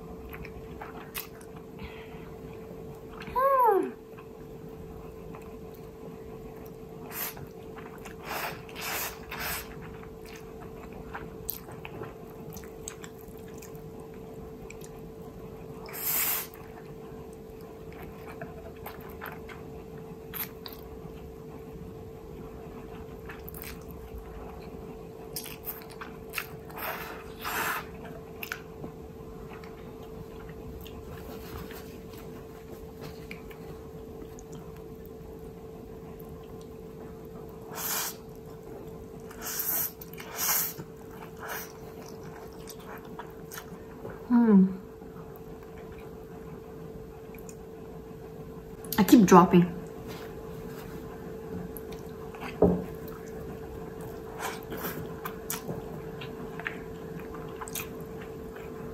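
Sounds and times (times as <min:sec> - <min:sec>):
chewing and slurping noodles: 0:00.1 - 0:01.8, 0:04.2 - 0:21.8, 0:22.4 - 0:35.2, 0:36.1 - 0:44.2, 0:50.3 - 0:58.9.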